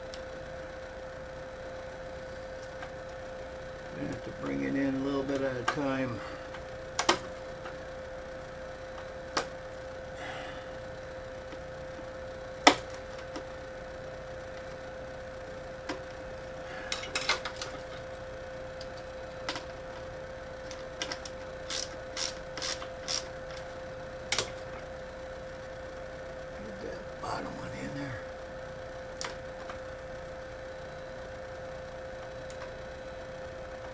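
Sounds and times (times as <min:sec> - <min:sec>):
steady hum: 0:00.0 - 0:33.9.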